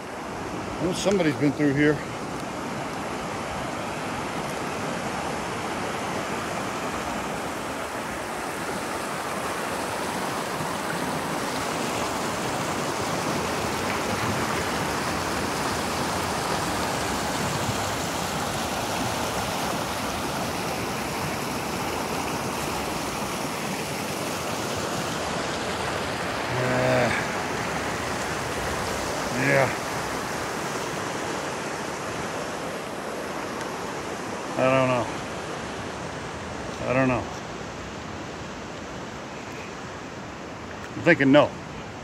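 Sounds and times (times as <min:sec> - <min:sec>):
creek rushing over rocks: 0:00.0 - 0:42.0.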